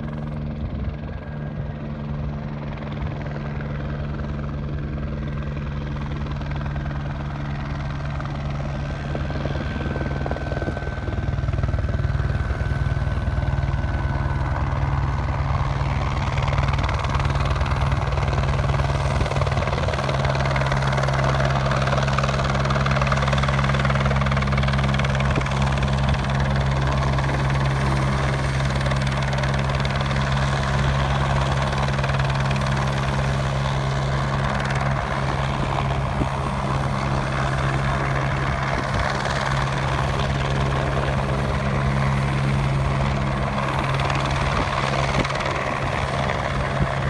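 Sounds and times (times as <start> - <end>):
helicopter rotor and engine: 0.0 - 47.0.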